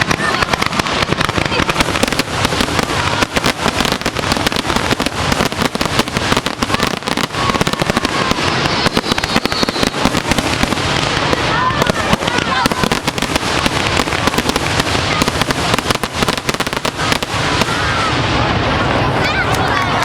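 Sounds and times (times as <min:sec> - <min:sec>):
fireworks exploding: 0:00.0 - 0:20.0.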